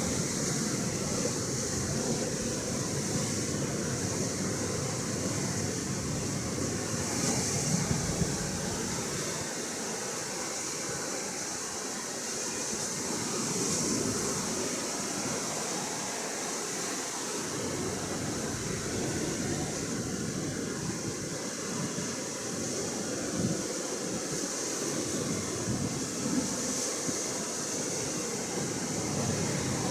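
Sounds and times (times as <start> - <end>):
surf washing against shore: 0.0 - 29.9
wind: 0.0 - 29.9.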